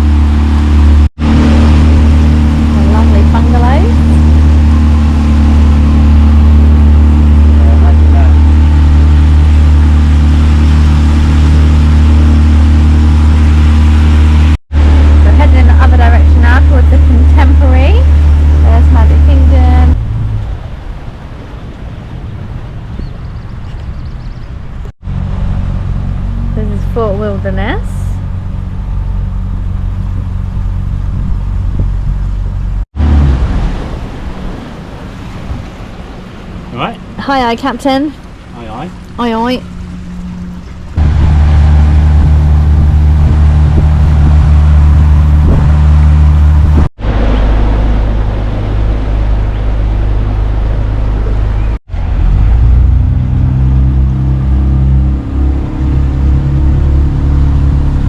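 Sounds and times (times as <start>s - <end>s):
outboard motor running: 0.0s - 20.3s, 25.0s - 58.0s
water noise: 0.0s - 58.0s
wind buffeting microphone: 0.0s - 58.0s.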